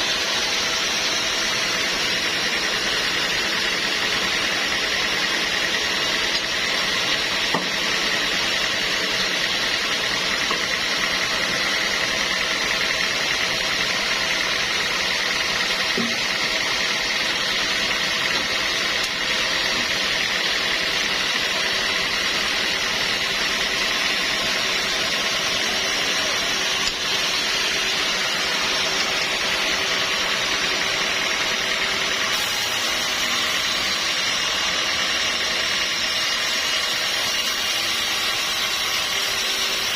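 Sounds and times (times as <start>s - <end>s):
high steady whine: 0.0s - 39.9s
sawmill machinery running: 0.0s - 39.9s.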